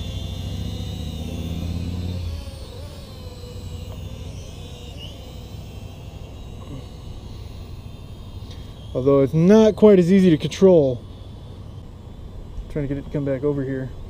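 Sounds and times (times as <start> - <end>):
low engine hum: 0.0 - 14.0
quadcopter propellers whining: 0.0 - 14.0.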